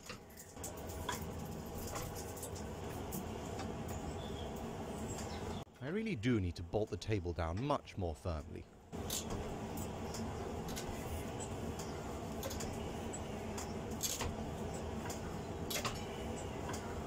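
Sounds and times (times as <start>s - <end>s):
steady low rumble: 0.5s - 17.0s.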